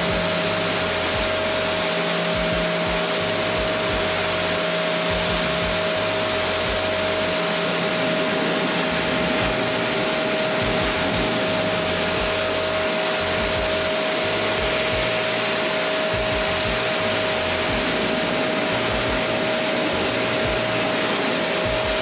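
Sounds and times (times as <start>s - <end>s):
low rumbling: 0.0s - 22.0s
machine whining with air rush: 0.0s - 22.0s.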